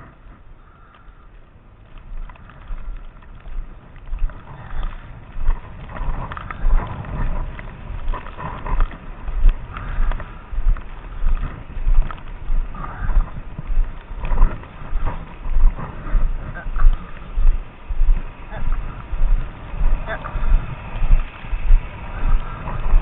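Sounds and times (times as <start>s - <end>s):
footsteps crunching through snow: 2.0s - 23.0s.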